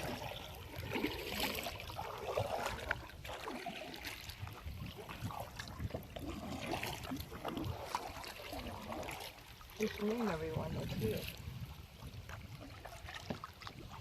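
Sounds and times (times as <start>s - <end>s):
paddle splashes: 0.0s - 14.0s
water trickling and dripping: 0.0s - 14.0s.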